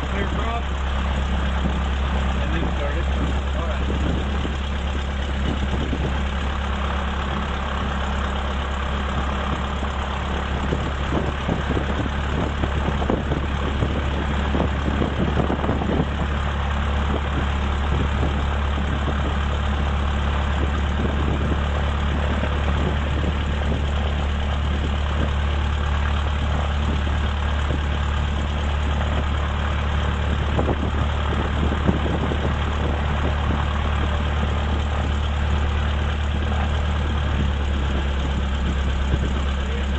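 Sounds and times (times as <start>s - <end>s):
airplane engine and propeller: 0.0s - 39.9s.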